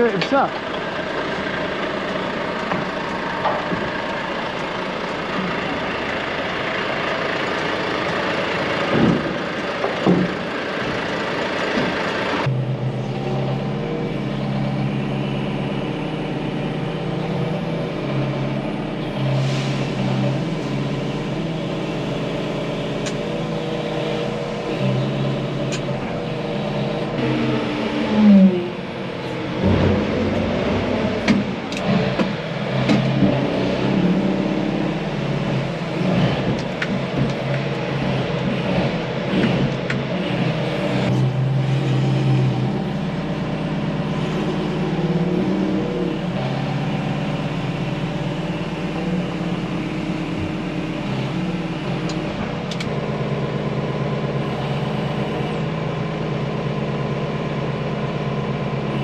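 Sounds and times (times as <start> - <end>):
large vehicle engine running: 0.0 - 59.0.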